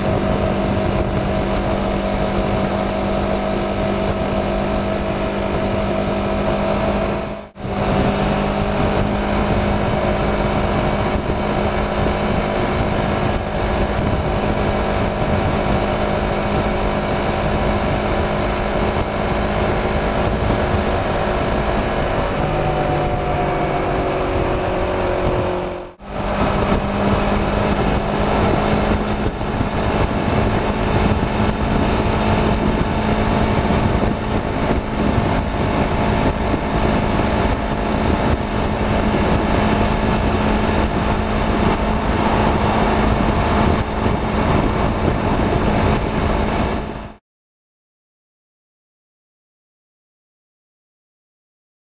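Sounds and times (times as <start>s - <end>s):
motorcycle engine running: 0.0s - 47.2s
wind and road noise: 0.0s - 47.2s.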